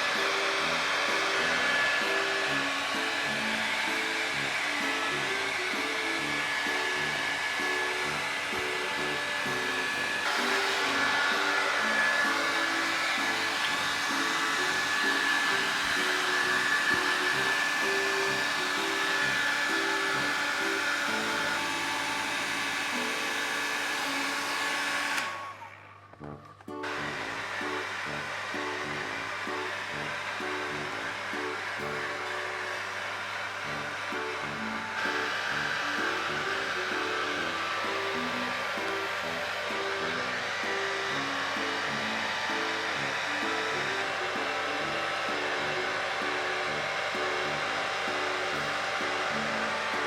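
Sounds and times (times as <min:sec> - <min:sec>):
background music: 0:00.0 - 0:25.4, 0:26.2 - 0:50.0
hair dryer blowing: 0:00.0 - 0:25.9, 0:26.8 - 0:50.0.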